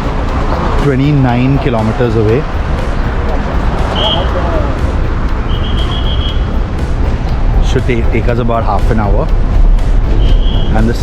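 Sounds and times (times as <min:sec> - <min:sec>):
roadway traffic rumble: 0:00.0 - 0:11.0.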